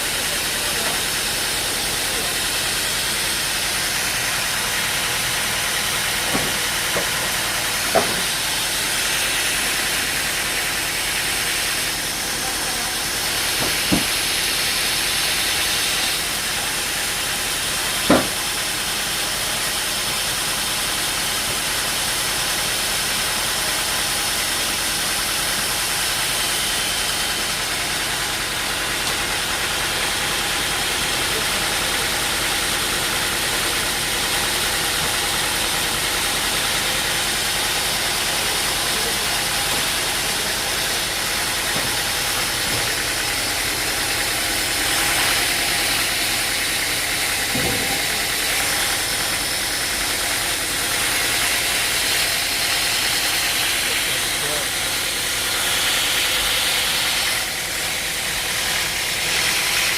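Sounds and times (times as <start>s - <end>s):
machine engine hissing: 0.0s - 59.9s.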